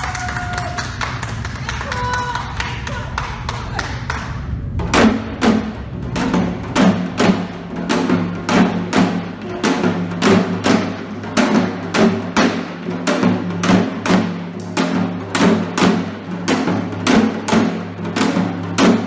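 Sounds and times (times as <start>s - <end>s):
drums struck in steady beat: 0.0s - 19.0s.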